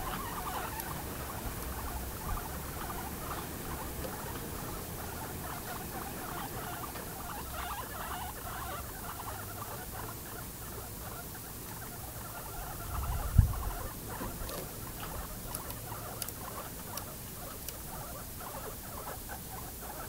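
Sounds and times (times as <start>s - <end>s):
guinea pigs feeding: 0.0s - 20.0s.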